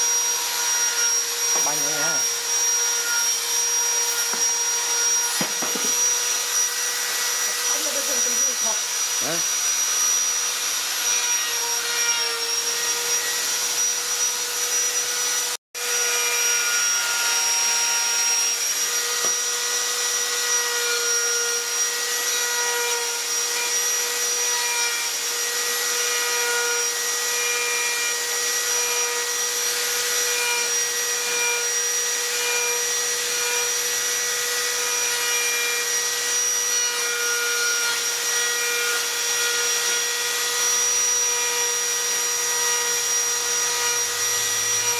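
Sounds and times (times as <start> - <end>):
die grinder whining into wood: 0.0 - 44.9.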